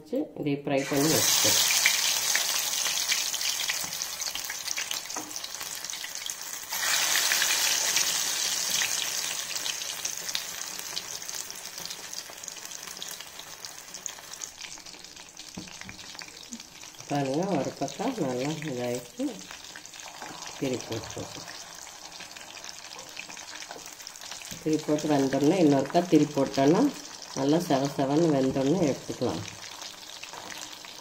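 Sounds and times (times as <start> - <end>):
chicken sizzling in hot oil: 0.8 - 31.0.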